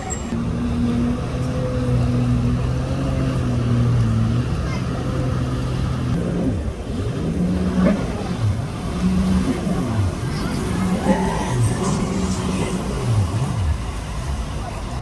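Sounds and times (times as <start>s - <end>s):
jet ski engine revving: 0.4s - 15.0s.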